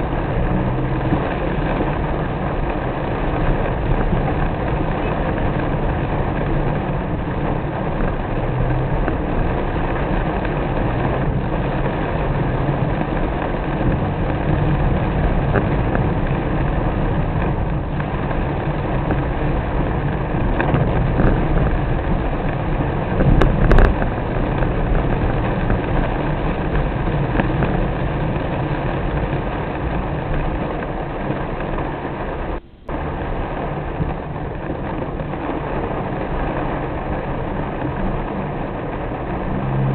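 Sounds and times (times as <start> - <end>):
car driving in the rain: 0.0 - 39.9.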